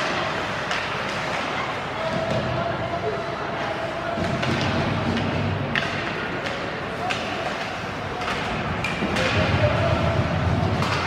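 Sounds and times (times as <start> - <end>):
hockey sticks and puck clacking: 0.0 - 11.0
murmur of spectators: 0.0 - 11.0.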